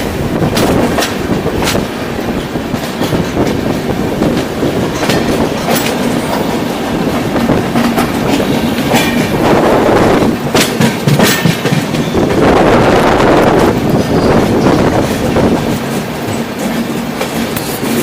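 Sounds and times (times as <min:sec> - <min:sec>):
train coaches rumbling: 0:00.0 - 0:18.0
wheels clacking over rail joints: 0:00.0 - 0:18.0.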